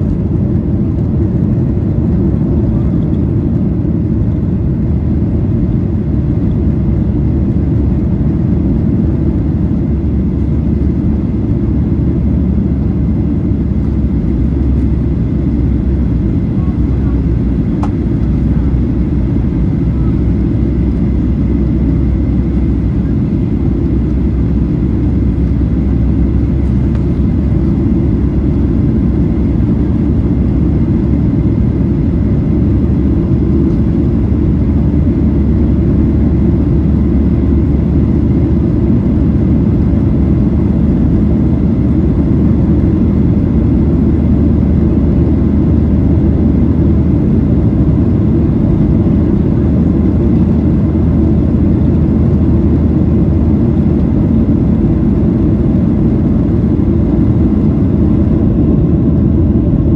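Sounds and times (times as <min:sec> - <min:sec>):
airplane cabin engine rumble: 0:00.0 - 0:59.9
faint steady whine: 0:00.0 - 0:59.9.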